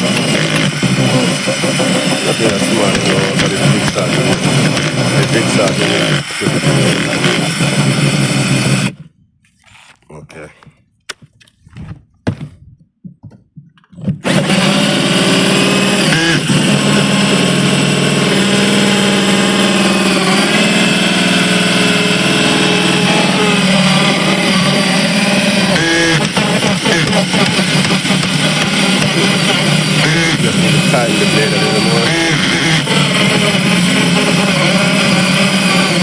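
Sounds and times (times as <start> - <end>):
electric jigsaw cutting: 0.0 - 9.1, 14.0 - 36.0.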